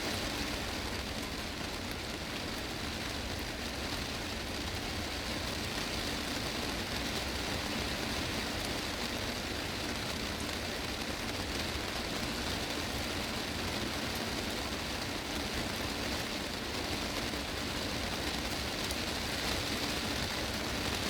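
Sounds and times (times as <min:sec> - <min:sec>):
heavy rain on glass roof: 0:00.0 - 0:21.0.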